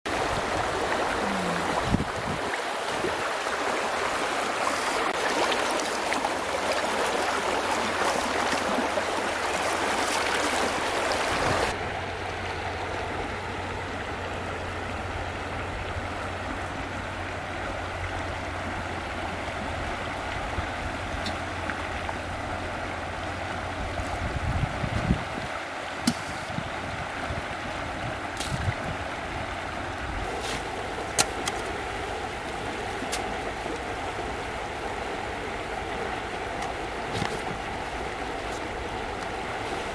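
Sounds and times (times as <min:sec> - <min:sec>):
river water rushing over rocks: 0:00.1 - 0:39.9.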